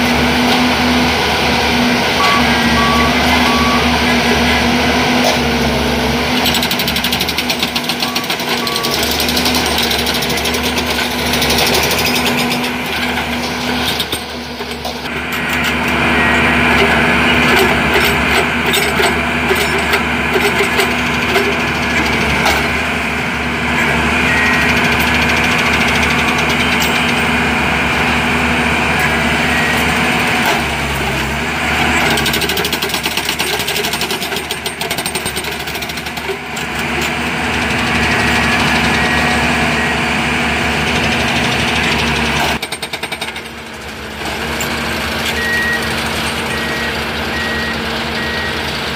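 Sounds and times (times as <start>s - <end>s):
track machine engine running: 0.0s - 48.9s.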